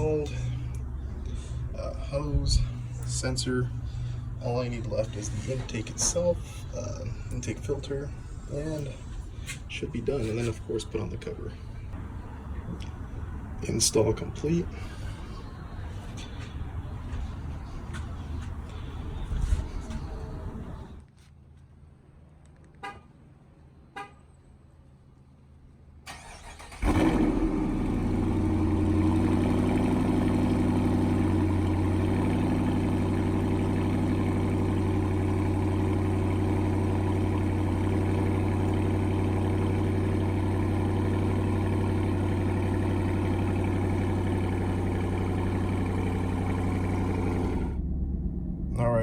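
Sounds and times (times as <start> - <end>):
car engine starting and idling: 0.0 - 21.0, 26.0 - 49.0.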